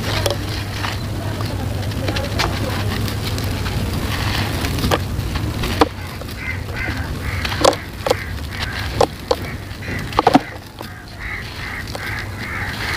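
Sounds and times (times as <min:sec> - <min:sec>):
gritty crunching rustle: 0:00.0 - 0:12.9
sharp cracks of pieces snapping: 0:02.0 - 0:12.9.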